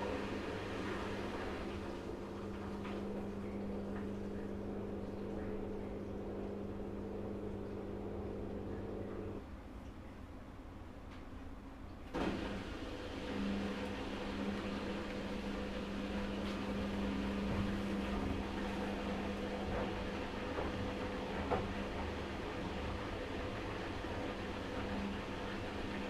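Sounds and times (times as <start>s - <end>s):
washing machine motor hum: 0.0s - 9.8s, 10.4s - 26.0s.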